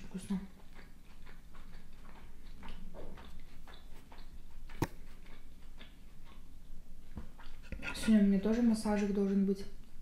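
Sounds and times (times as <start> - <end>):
close chewing with mouth clicks: 0.0 - 10.0.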